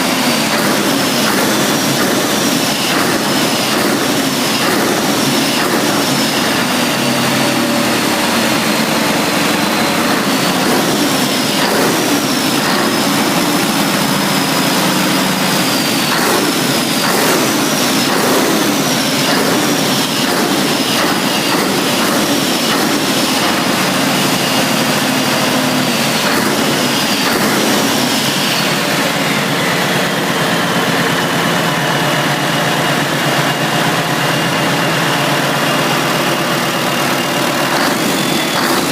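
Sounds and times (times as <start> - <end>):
diesel engine revving: 0.0 - 38.9
turbo whine: 0.0 - 38.9.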